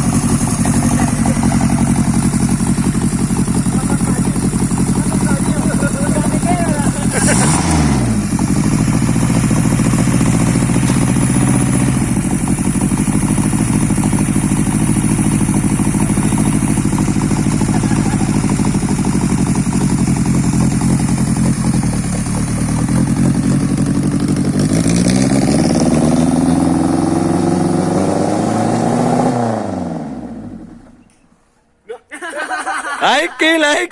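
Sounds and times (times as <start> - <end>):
loud car engine revving: 0.0 - 30.8.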